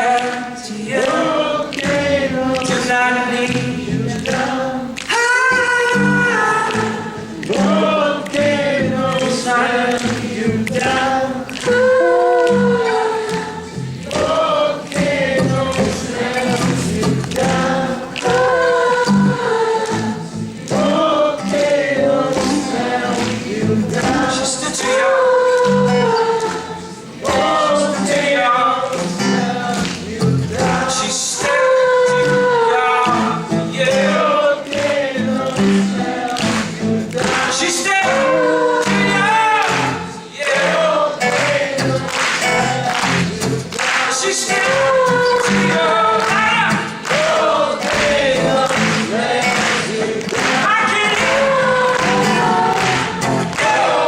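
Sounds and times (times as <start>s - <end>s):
crowd clapping a rhythm: 0.0s - 54.0s
crowd singing along: 0.0s - 54.0s
live folk-rock song: 0.0s - 54.0s.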